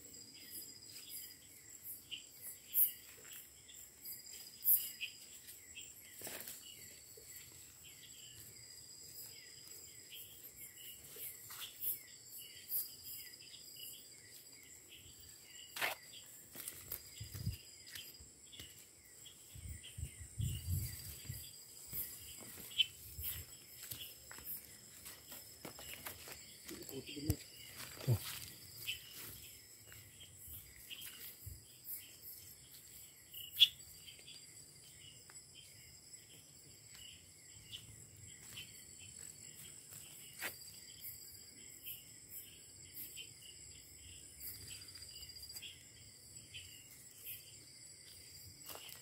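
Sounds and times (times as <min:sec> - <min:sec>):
high insect whine: 0:00.0 - 0:49.0
rapid insect chirping: 0:00.0 - 0:49.0.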